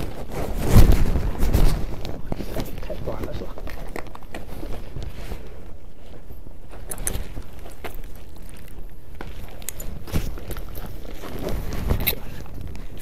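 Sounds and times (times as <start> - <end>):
clothing rustling on microphone: 0.0 - 13.0
footsteps: 0.0 - 13.0.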